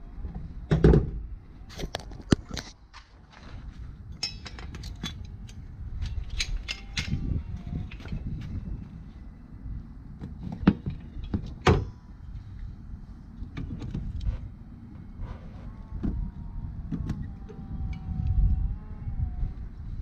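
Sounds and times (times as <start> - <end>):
steady low rumble: 2.8 - 20.0.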